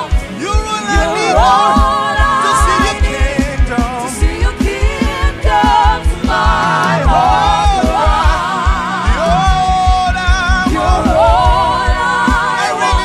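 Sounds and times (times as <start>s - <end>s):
person singing with vibrato: 0.0s - 13.0s
pulsing bass beat: 0.0s - 13.0s.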